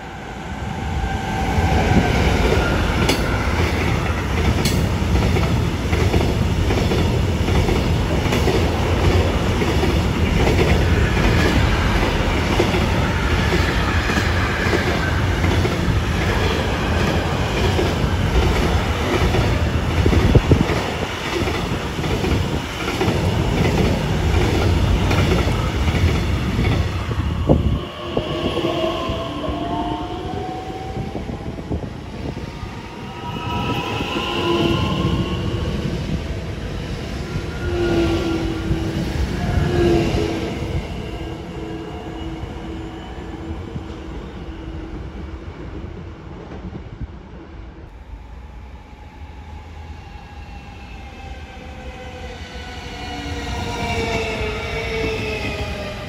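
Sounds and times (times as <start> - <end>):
electric train whine: 0.0 - 56.0
freight train rumbling over rails: 0.0 - 56.0.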